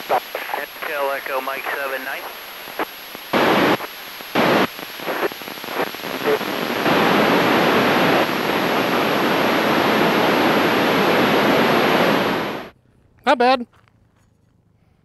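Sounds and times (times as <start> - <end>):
radio static hiss: 0.0 - 12.7.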